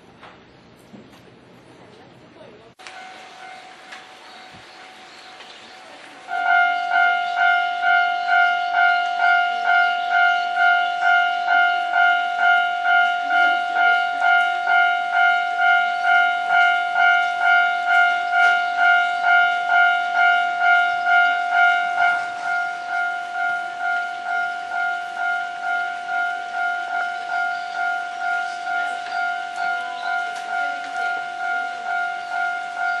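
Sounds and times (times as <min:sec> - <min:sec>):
level crossing warning bell: 0:02.8 - 0:33.0.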